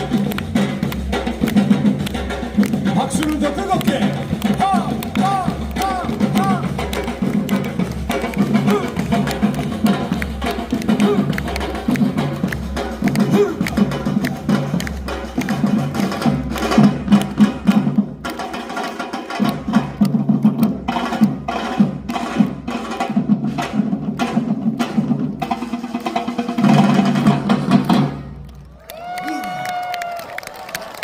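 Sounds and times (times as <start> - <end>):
percussion ensemble playing: 0.0 - 30.1.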